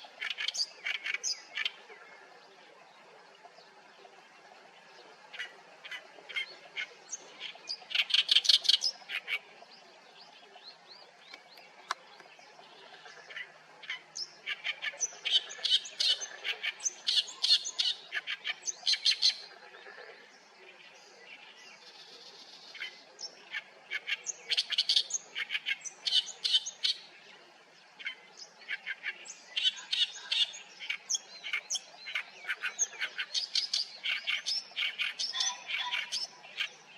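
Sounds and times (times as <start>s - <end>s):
reed warbler harsh chattering song: 5.2s - 36.9s.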